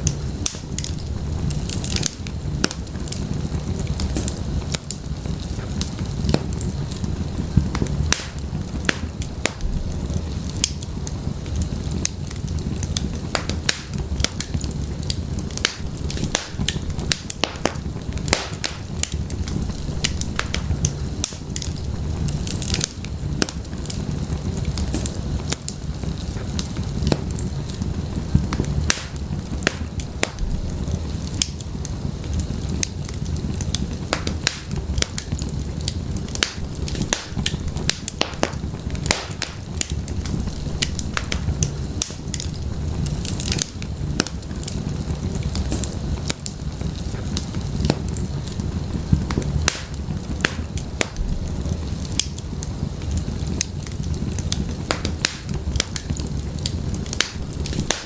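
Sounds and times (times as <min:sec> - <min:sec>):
fire rumbling: 0:00.0 - 0:58.0
firewood crackling and popping: 0:00.0 - 0:58.0.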